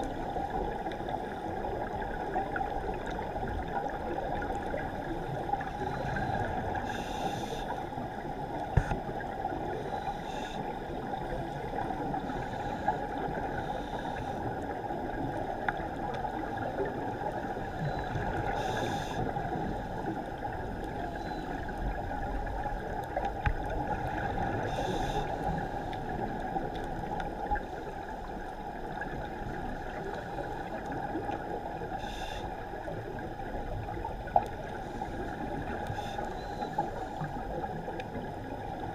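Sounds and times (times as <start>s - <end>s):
scuba regulator bubbling: 0.0s - 38.9s
underwater rush and hiss: 0.0s - 38.9s.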